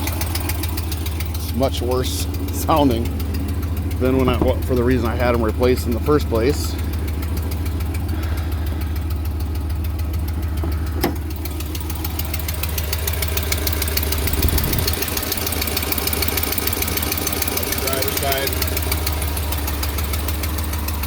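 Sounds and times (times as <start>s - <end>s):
engine idling: 0.0s - 21.0s
fast exhaust tick: 0.0s - 21.0s
sharp engine knock: 2.3s - 21.0s.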